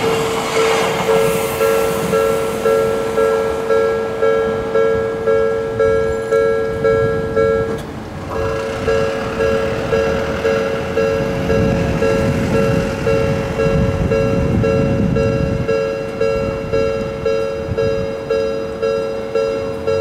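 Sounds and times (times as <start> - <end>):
rumble of passing trains: 0.0 - 20.0
level crossing alarm ringing: 1.0 - 20.0.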